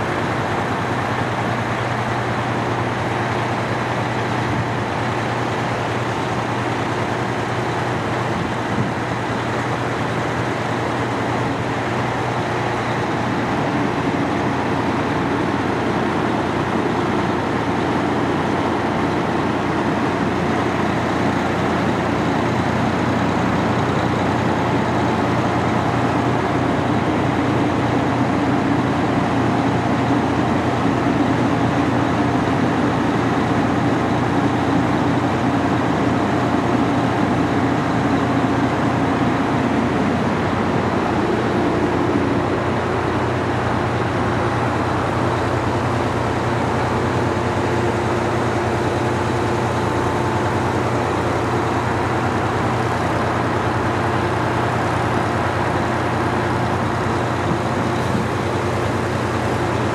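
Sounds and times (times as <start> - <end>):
diesel engines idling: 0.0 - 59.9.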